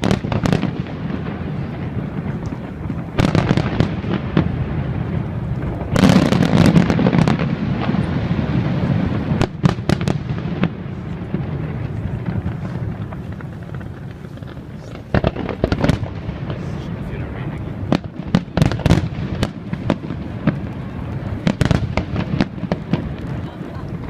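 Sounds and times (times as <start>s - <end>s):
fireworks crackling and booming: 0.0s - 24.0s
sharp firework bangs: 0.0s - 24.0s.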